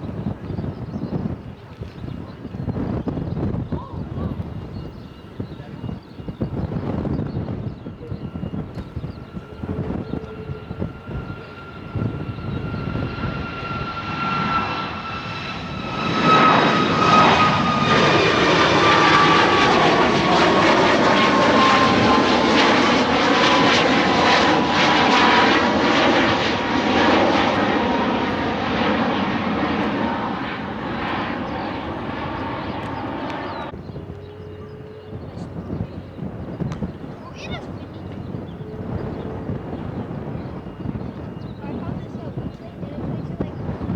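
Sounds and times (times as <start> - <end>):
jet airliner passing overhead: 0.0 - 43.9.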